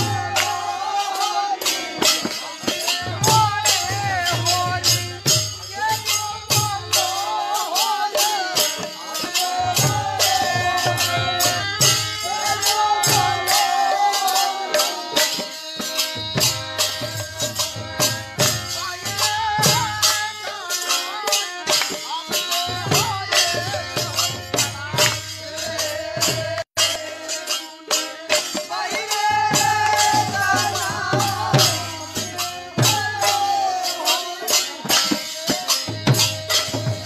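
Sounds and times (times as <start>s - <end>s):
voices singing a devotional chant: 0.0s - 37.0s.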